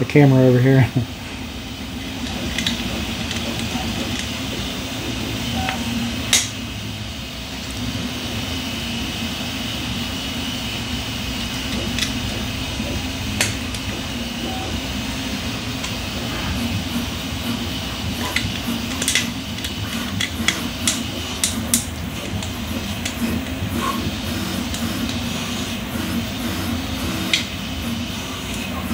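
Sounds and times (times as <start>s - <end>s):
steady machine hum: 0.0s - 28.9s.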